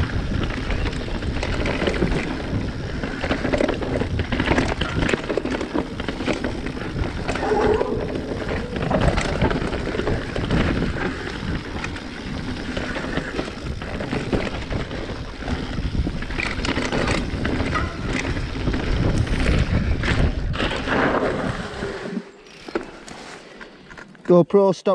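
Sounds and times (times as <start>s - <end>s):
bike knocks and rattles: 0.0s - 21.4s
wind buffeting microphone: 0.0s - 21.9s
bike tyres rumbling on dirt: 0.0s - 23.9s.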